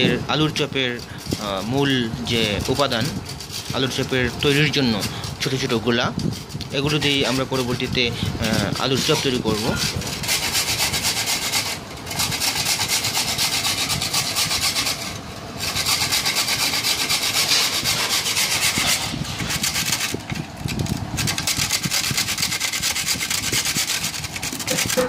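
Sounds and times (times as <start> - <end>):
toast rasping on metal grater: 0.0 - 25.0.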